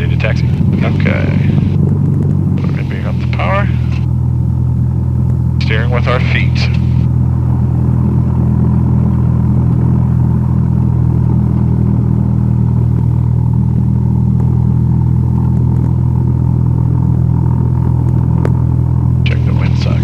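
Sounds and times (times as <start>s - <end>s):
light airplane engine droning: 0.0s - 20.0s.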